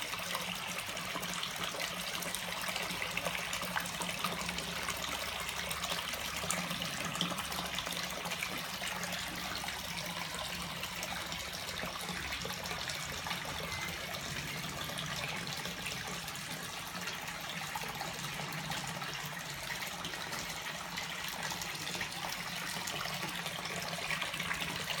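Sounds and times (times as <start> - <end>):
water splashing and trickling: 0.0 - 25.0.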